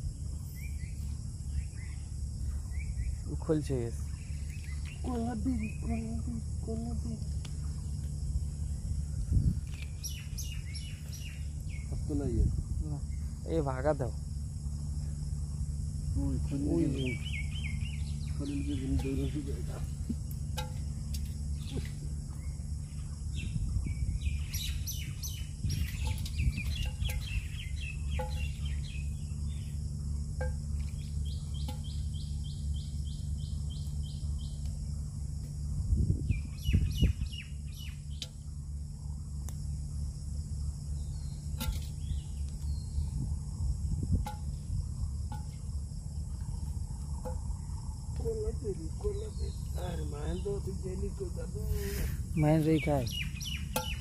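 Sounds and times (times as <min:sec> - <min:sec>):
low hum: 0:00.0 - 0:54.0
small birds chirping: 0:00.1 - 0:54.0.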